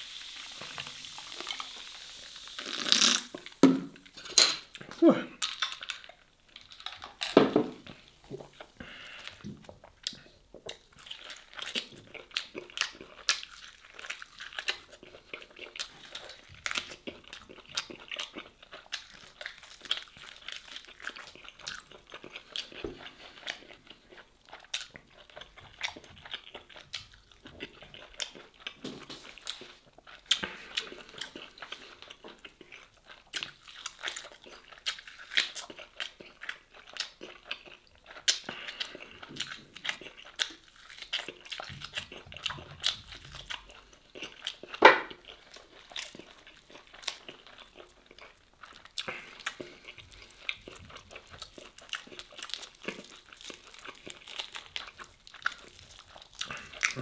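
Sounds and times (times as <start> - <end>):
man chewing meat: 0.0 - 57.0.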